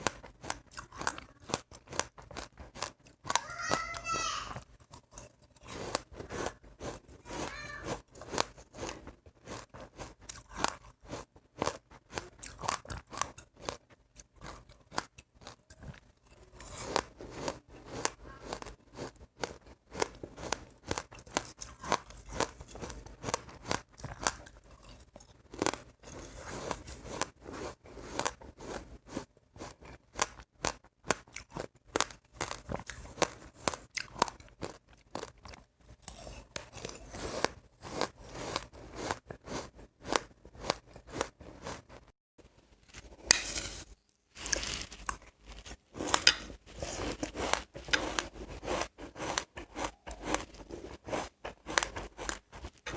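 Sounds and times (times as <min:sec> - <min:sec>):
chewing crunchy seeds: 0:00.0 - 0:42.1, 0:42.9 - 0:52.9.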